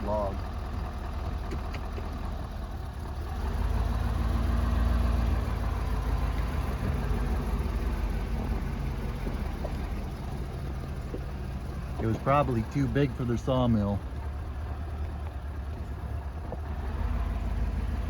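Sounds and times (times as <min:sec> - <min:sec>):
vehicle engine with road noise: 0:00.0 - 0:18.0.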